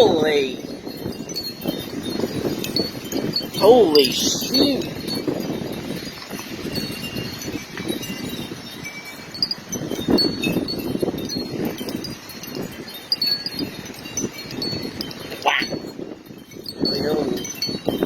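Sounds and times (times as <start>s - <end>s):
gusty wind rushing: 0.0s - 18.0s.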